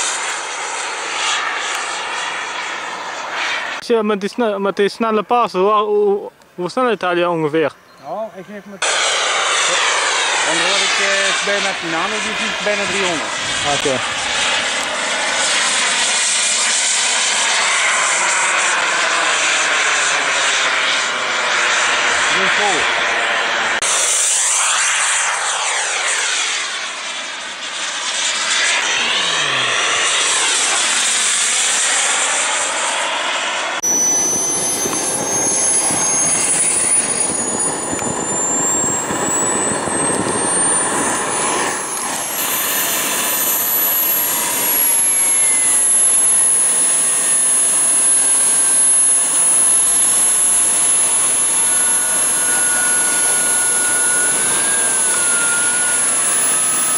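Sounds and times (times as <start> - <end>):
model jet passing overhead: 0.0 - 3.8, 8.8 - 56.9
model jet engine whine: 0.0 - 4.5, 7.8 - 56.9.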